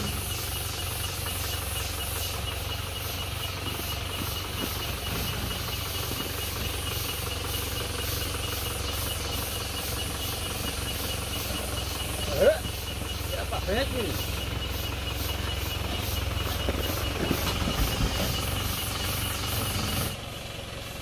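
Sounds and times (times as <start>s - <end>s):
insects chirring: 0.0s - 20.2s
vehicle engine running: 0.0s - 21.0s.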